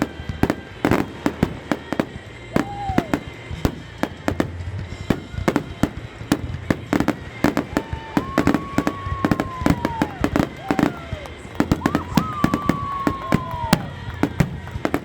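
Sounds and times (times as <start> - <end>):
fireworks bangs and crackles: 0.0 - 15.0
whistling firework: 0.0 - 15.0.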